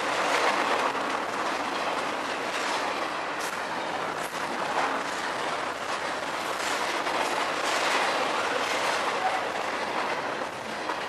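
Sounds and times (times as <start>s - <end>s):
train wheels rushing on rail: 0.0s - 11.0s
wheels clicking on rail joints: 0.0s - 11.0s.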